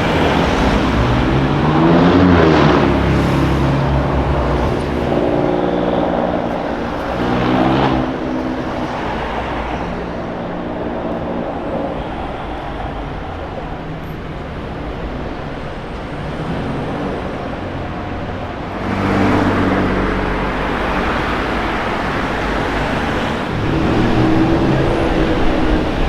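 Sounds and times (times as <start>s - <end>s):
car exhaust accelerating: 0.0s - 26.0s.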